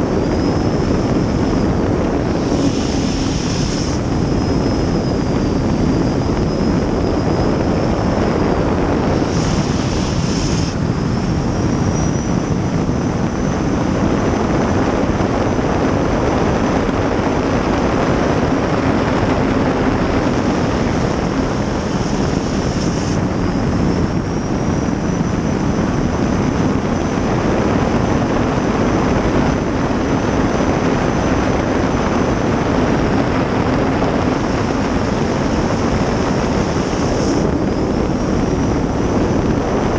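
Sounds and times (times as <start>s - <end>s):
high turbine whine: 0.0s - 39.9s
rush of engine wind and water: 0.0s - 39.9s.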